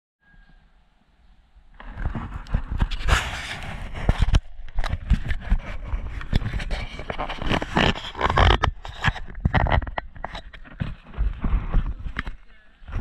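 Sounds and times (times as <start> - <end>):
camera handling knocks and scrapes: 1.8 - 12.4.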